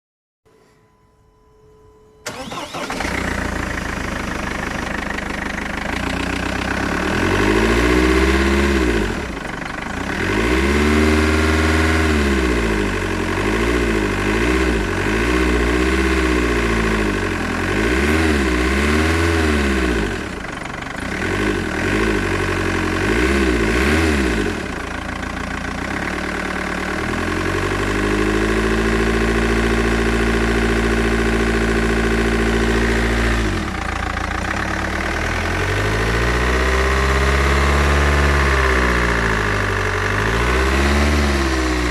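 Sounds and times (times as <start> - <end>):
engine rattling: 2.2 - 41.9
diesel engine revving: 2.3 - 41.9.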